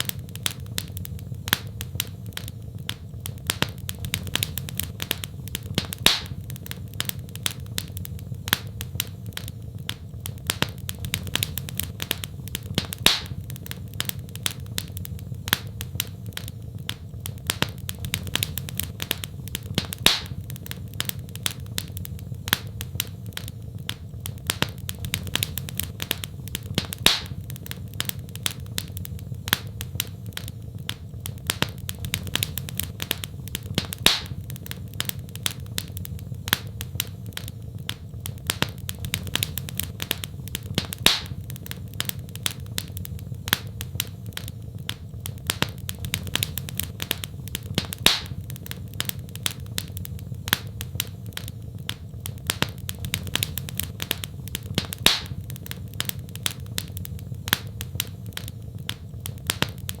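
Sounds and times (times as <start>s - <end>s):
loud fire pops: 0.0s - 60.0s
low rumble of flames: 0.0s - 60.0s
wood fire crackling: 0.0s - 60.0s.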